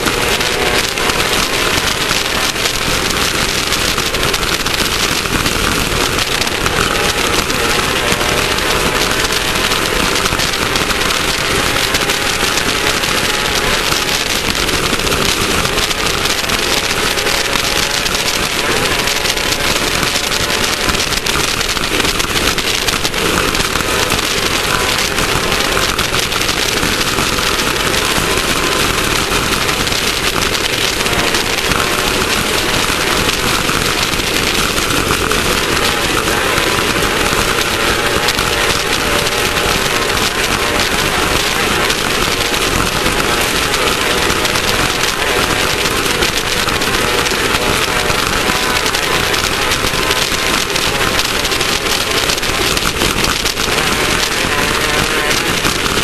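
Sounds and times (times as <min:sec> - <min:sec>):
race car engine under load: 0:00.0 - 0:56.0
rush and rattle of car: 0:00.0 - 0:56.0.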